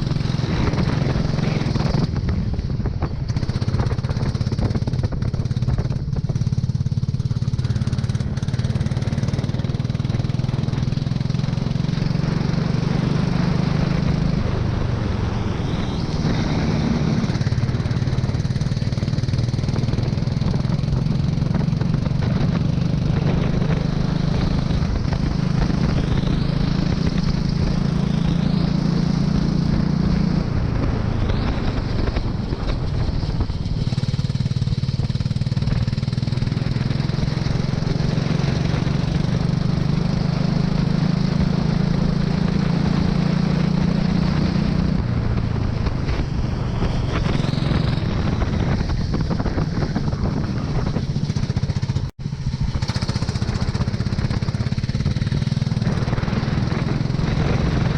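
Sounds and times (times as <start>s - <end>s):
go-kart engine running: 0.0s - 57.9s.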